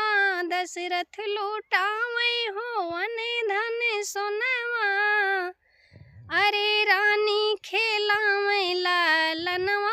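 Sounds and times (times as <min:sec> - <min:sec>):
woman singing unaccompanied folk song: 0:00.0 - 0:09.9.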